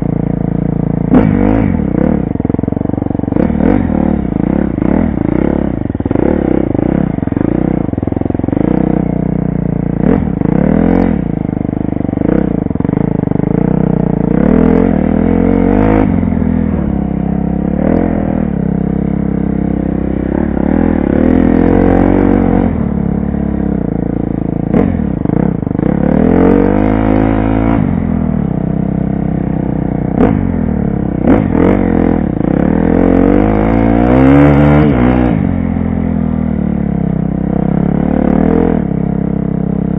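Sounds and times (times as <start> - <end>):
dirt bike engine revving: 0.9 - 28.4, 29.4 - 36.5, 37.6 - 39.2.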